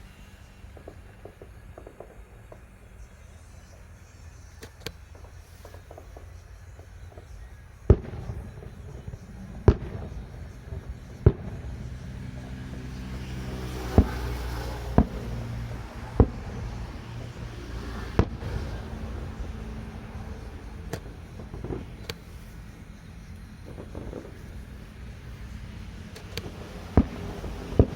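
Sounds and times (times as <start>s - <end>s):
fireworks bangs: 0.0s - 4.0s, 4.7s - 27.9s
steady low hum: 0.0s - 27.9s.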